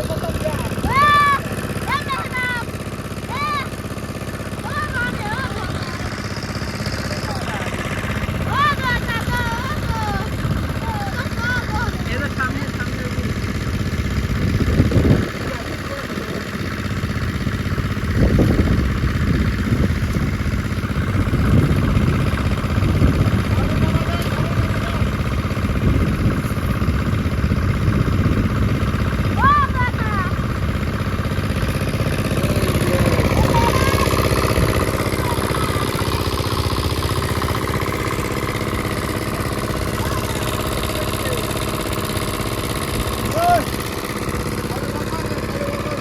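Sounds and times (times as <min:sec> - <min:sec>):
small engine running: 0:00.0 - 0:46.0.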